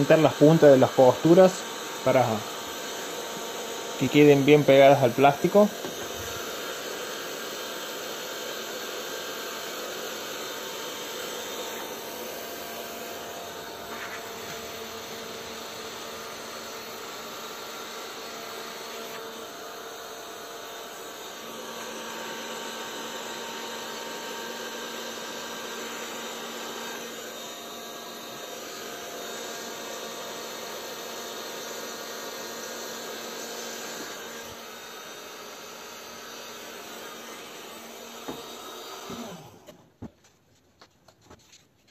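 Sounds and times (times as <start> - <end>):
heat gun fan blowing: 0.0 - 39.9.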